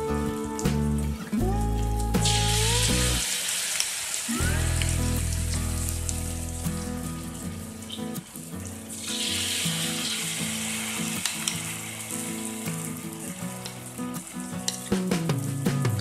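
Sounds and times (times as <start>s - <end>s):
deep-frying sizzle: 0.2s - 15.8s.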